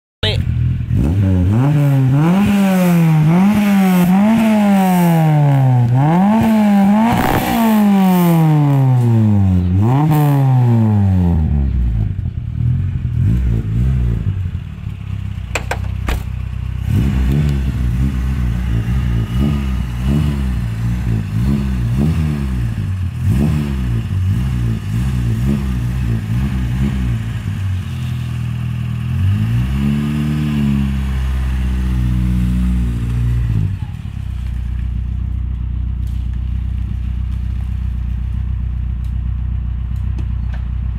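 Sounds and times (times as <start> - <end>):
car engine revving and idling: 0.2 - 40.9.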